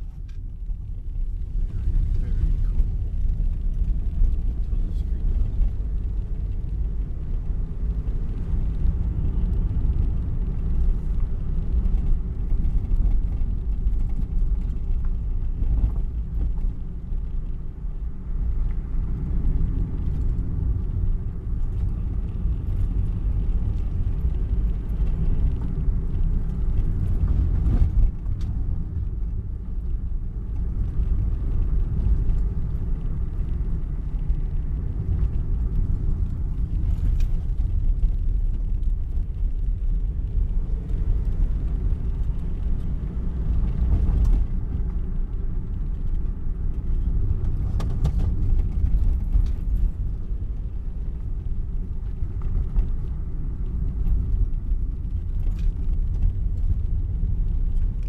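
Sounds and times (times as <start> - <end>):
car engine and tyres rumbling: 0.0 - 58.0.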